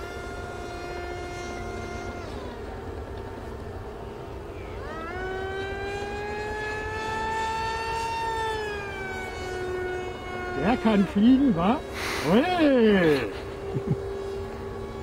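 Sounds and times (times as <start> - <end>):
model airplane motor whining: 0.0 - 15.0.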